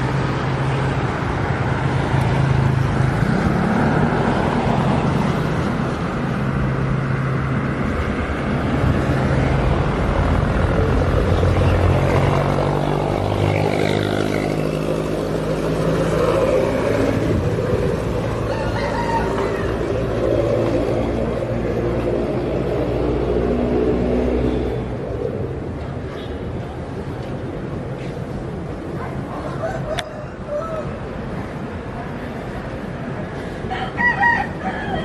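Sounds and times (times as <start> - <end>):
road traffic noise: 0.0 - 35.0
vehicle engines humming: 0.0 - 35.0.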